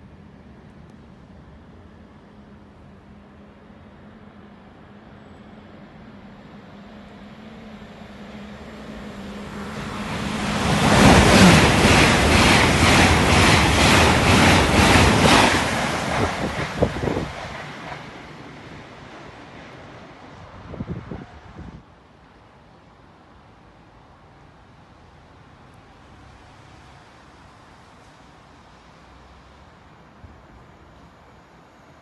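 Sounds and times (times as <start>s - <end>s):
express train passing at speed: 0.0s - 32.0s.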